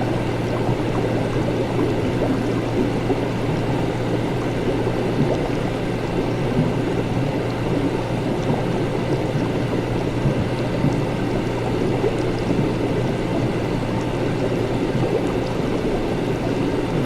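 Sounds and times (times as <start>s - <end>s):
even wash of noise: 0.0s - 17.0s
steady low hum: 0.0s - 17.0s.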